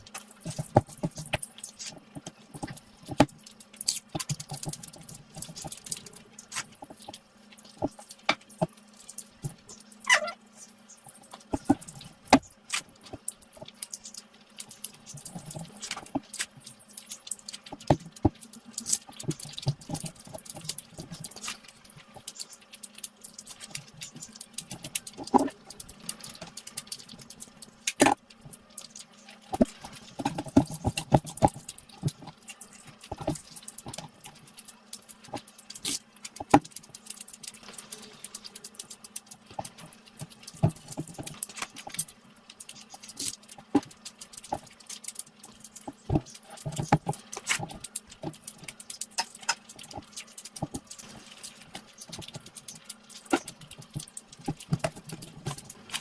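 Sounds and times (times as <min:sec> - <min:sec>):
chewing and lip smacking: 0:00.0 - 0:56.0
faint steady hum: 0:00.0 - 0:56.0.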